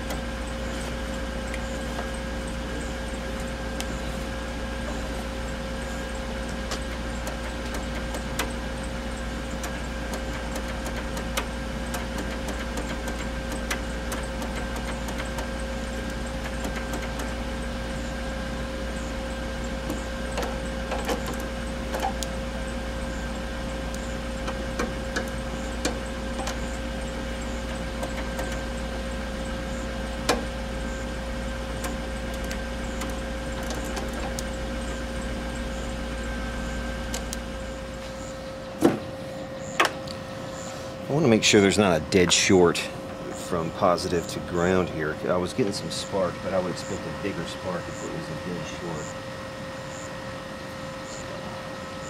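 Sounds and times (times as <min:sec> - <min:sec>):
car engine idling: 0:00.0 - 0:51.6.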